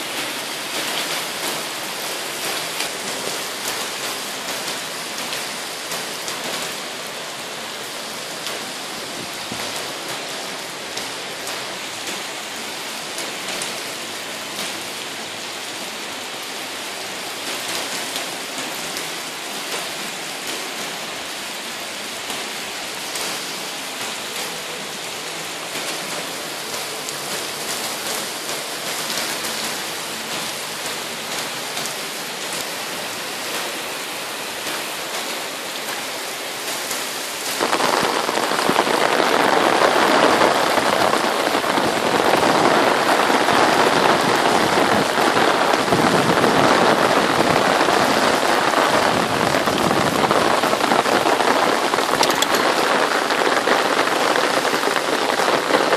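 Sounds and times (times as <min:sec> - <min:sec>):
heavy rain on pavement: 0:00.0 - 0:55.9.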